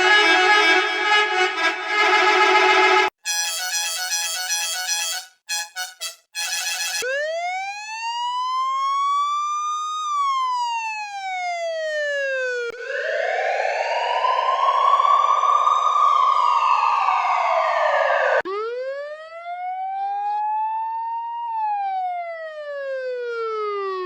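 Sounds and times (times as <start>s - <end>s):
buzzy siren wail: 0.0s - 24.0s
clean-toned siren: 0.0s - 24.0s.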